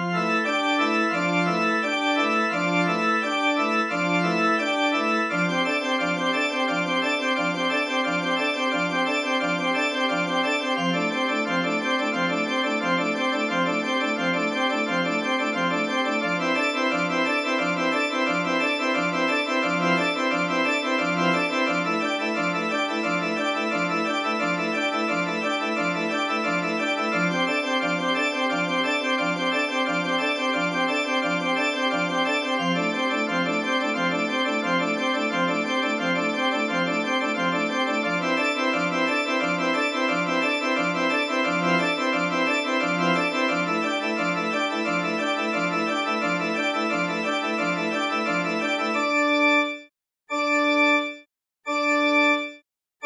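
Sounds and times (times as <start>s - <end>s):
pipe organ arpeggios: 0.0s - 52.6s.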